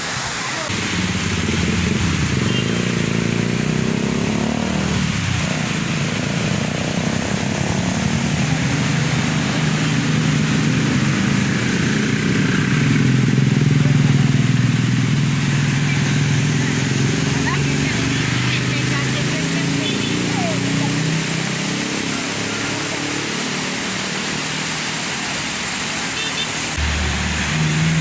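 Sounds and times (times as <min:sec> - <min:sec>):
motorcycle engine running: 0:00.7 - 0:23.3.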